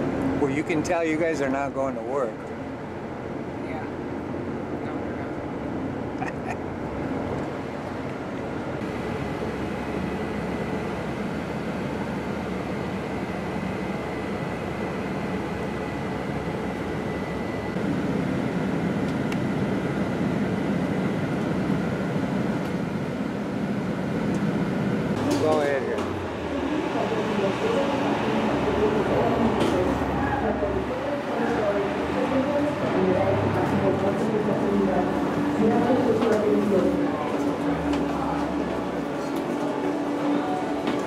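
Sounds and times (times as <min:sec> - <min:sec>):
bus engine and road noise: 0:00.0 - 0:00.6, 0:01.9 - 0:41.0.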